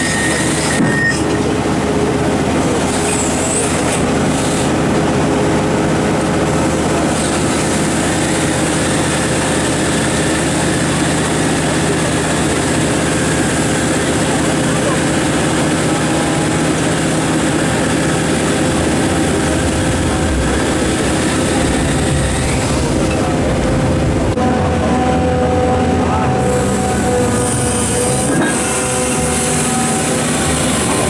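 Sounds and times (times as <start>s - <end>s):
excavator engine hum: 0.0s - 31.0s.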